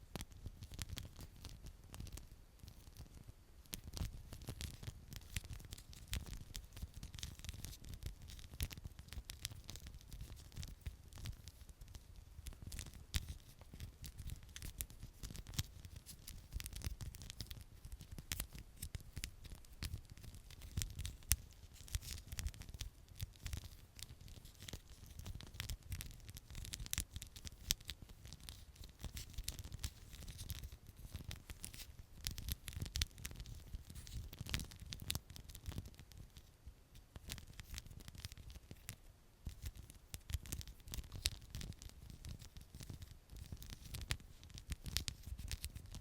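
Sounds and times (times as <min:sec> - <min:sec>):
hair crackles and scratches: 0:00.0 - 0:46.0.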